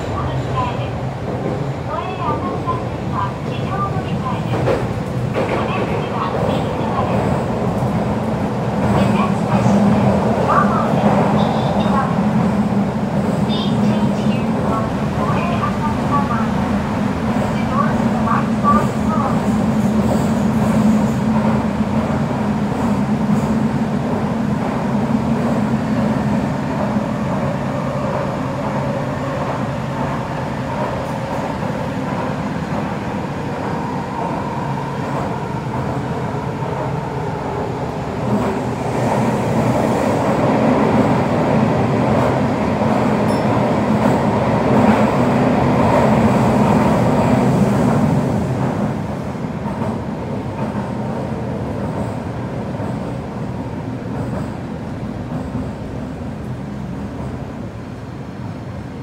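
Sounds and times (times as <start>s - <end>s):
subway train rumble in tunnel: 0.0s - 59.0s.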